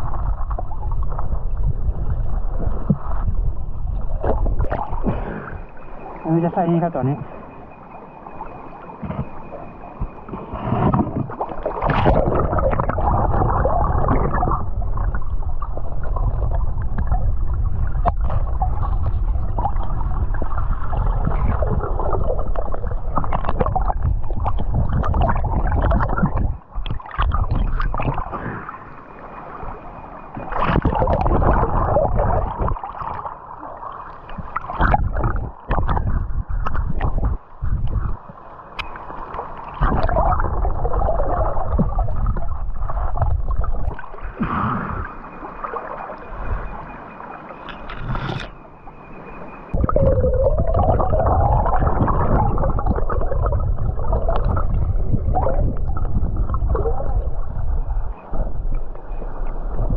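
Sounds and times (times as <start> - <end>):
muffled underwater stream gurgling: 0.0 - 59.9.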